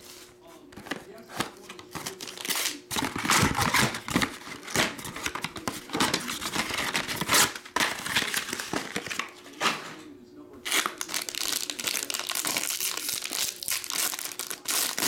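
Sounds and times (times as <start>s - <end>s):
foil wrappers crinkling: 0.7s - 9.8s, 10.6s - 15.0s.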